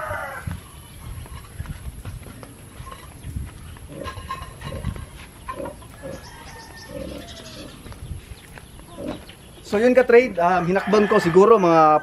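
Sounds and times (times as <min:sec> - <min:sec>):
chickens clucking: 0:00.0 - 0:11.8
small birds chirping: 0:00.4 - 0:10.8.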